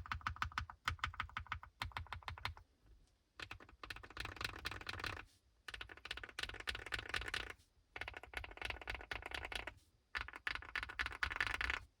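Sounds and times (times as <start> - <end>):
fast typing on mechanical keyboard: 0.0 - 2.6, 3.4 - 11.8.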